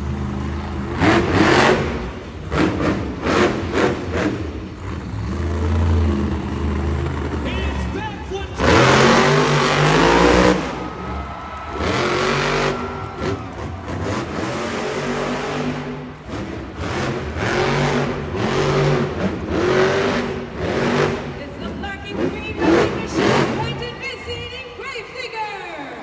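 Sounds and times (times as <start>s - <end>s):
monster truck engine revving: 0.0s - 24.3s.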